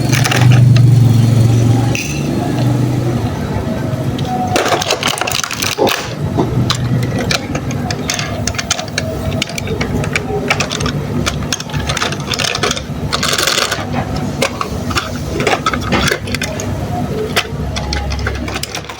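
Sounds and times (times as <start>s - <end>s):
toy cars clicking and rattling: 0.0s - 2.6s, 4.2s - 18.9s.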